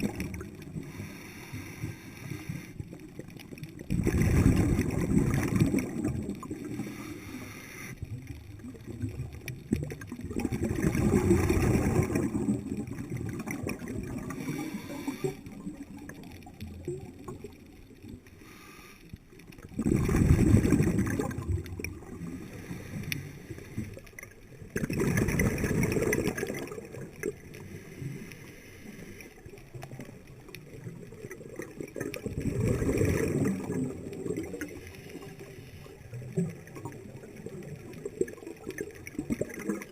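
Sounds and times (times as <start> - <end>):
underwater regulator bubbling: 0.0 - 18.6, 19.4 - 39.9.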